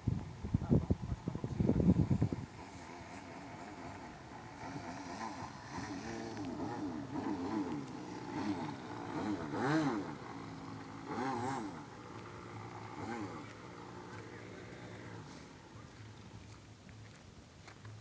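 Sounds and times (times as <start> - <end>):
model airplane engine and propeller: 0.0 - 18.0.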